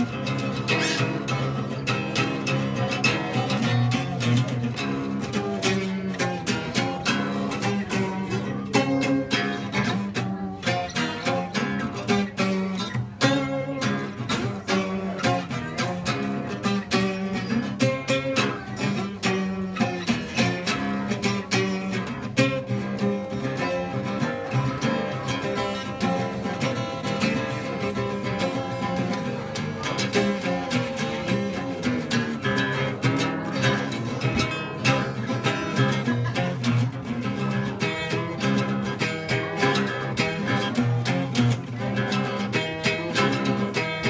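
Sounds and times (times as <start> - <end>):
plucked guitar: 0.0 - 44.0.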